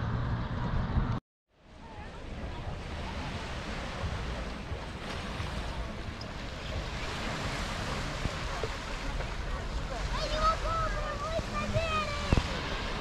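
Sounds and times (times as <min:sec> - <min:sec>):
sea surf washing ashore: 0:01.6 - 0:13.0
wind buffeting microphone: 0:01.9 - 0:13.0.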